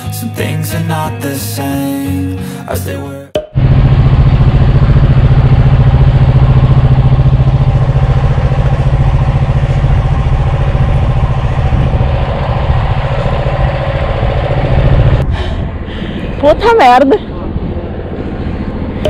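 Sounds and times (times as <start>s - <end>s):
outboard motor droning: 3.6s - 19.0s.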